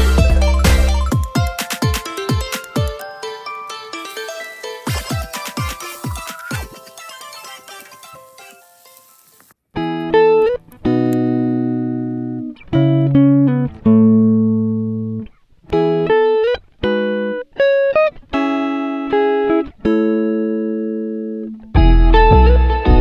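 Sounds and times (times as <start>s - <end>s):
plucked guitar chords: 0.0s - 6.8s, 9.8s - 17.4s, 18.4s - 23.0s.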